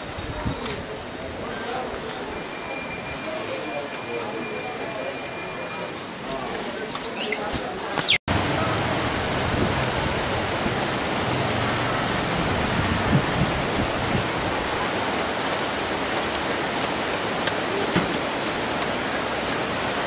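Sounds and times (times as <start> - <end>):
steady water noise: 0.0 - 20.0.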